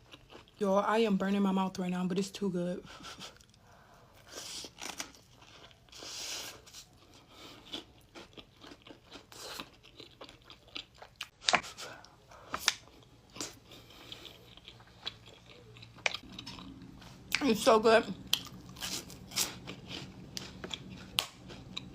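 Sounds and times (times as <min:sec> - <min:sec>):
person chewing food: 0:00.0 - 0:00.6, 0:03.1 - 0:17.4, 0:18.2 - 0:21.9.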